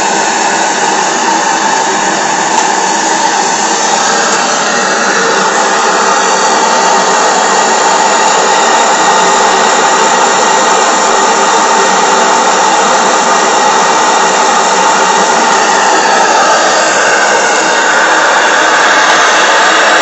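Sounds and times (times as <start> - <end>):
model steam engine hissing buzz: 0.0 - 20.0.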